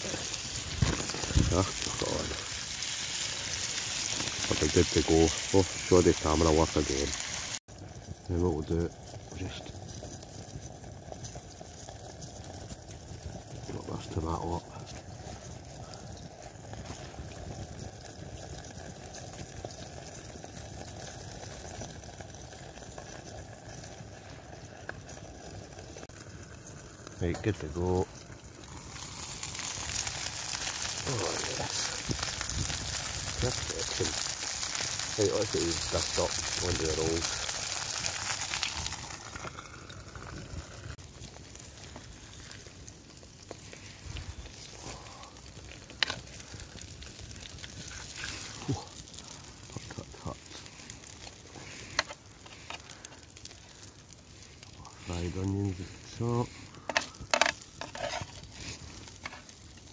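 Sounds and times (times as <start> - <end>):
food frying in oil: 0.0 - 59.9.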